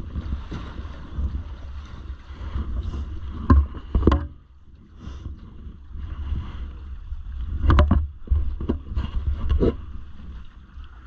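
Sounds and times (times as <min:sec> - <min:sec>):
water slapping against hull: 0:00.0 - 0:11.0
wind rumbling on microphone: 0:00.0 - 0:11.0.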